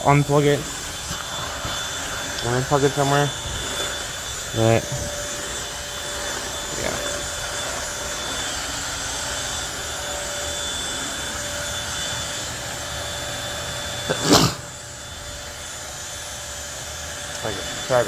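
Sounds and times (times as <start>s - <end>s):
stick vacuum running on carpet: 0.0s - 18.0s.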